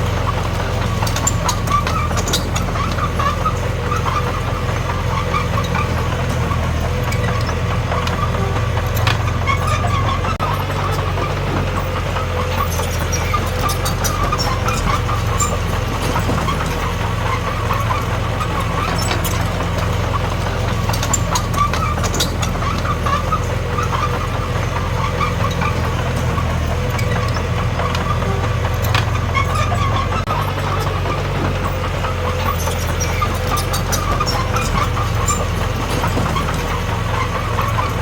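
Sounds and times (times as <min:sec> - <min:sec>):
bulldozer diesel engine running: 0:00.0 - 0:38.0
light clicks and clanks: 0:00.1 - 0:38.0.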